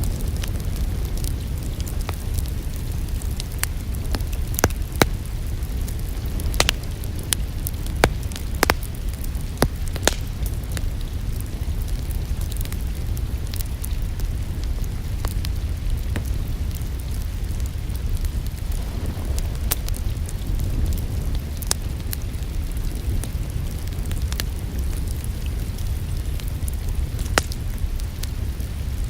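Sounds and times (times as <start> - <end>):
rain: 0.0 - 29.0
wood fire crackling: 0.0 - 29.0.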